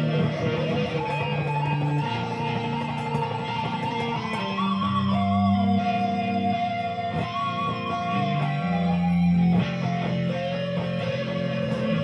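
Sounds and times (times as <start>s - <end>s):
electric guitar lead with vibrato: 0.0s - 12.0s.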